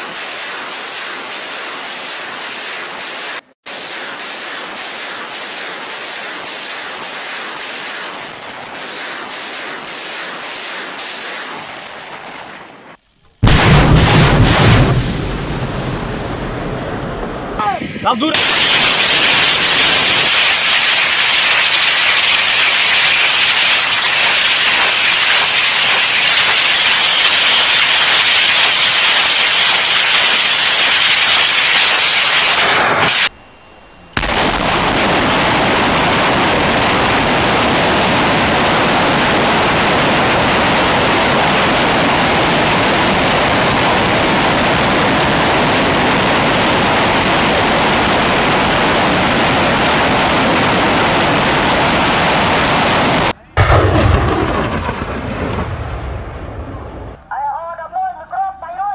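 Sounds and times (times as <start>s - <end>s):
rockets launching: 0.0s - 33.4s, 34.1s - 57.3s.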